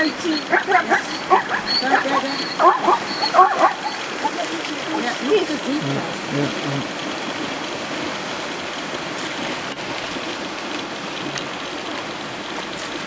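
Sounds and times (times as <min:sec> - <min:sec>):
animals splashing in water: 0:00.0 - 0:13.0
river rushing through rapids: 0:00.0 - 0:13.0.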